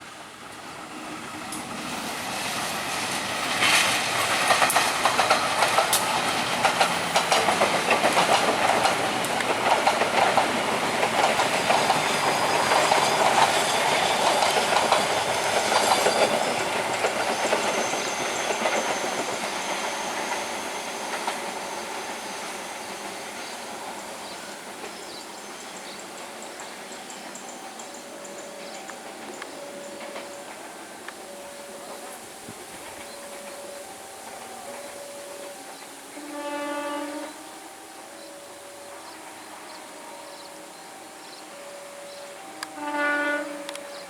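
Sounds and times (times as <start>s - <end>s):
train wheels clattering over rails: 0.0s - 37.4s
train rolling noise: 0.0s - 44.0s.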